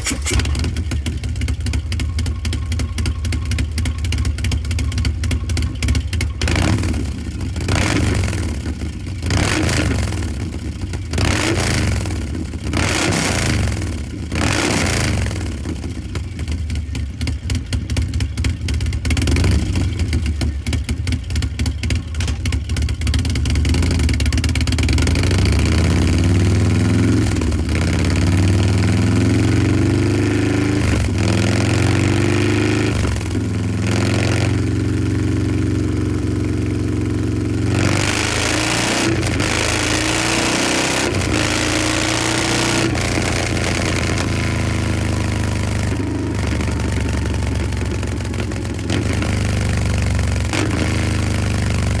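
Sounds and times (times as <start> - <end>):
motorcycle engine idling and revving: 0.0 - 52.0.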